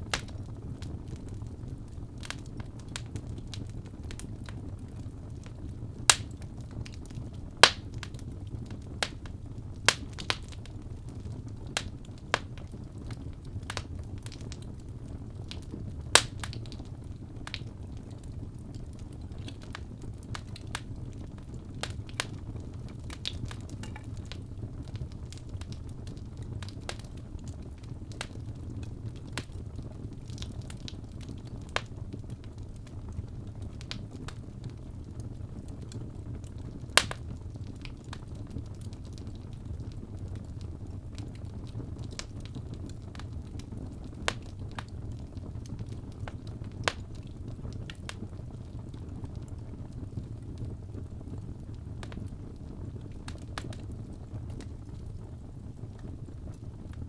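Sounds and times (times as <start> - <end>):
fire crackling with sharp pops: 0.0 - 57.0.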